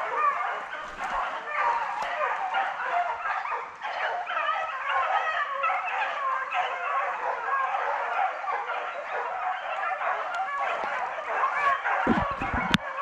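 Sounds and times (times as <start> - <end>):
pack of hounds baying: 0.0 - 13.0.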